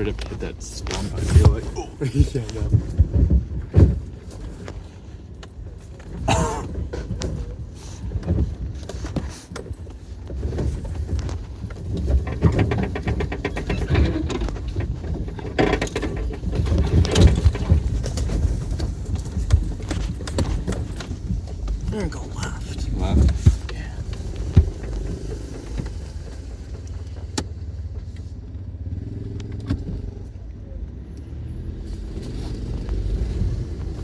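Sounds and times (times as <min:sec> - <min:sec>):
vehicle knocks and jolts: 0:00.0 - 0:30.2
engine and tyres rumbling: 0:00.0 - 0:34.0.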